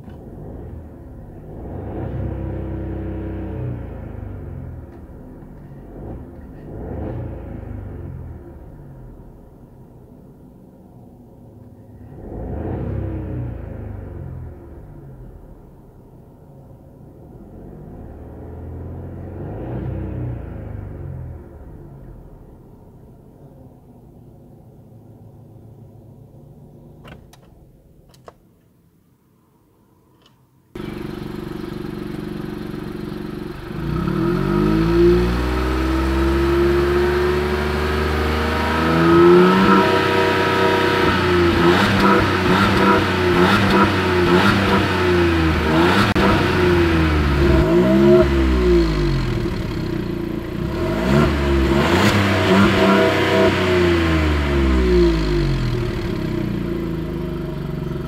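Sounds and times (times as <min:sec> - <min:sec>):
car engine idling and revving: 0:00.0 - 0:28.4, 0:30.2 - 0:58.0.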